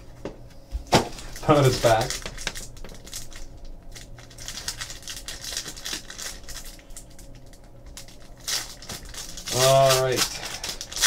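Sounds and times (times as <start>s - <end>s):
cards and packaging rustling: 0.9s - 11.0s.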